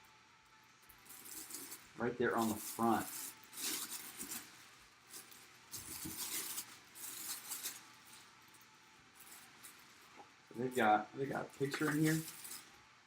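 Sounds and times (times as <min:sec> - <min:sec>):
packaging rustling and crinkling: 0:00.8 - 0:12.8.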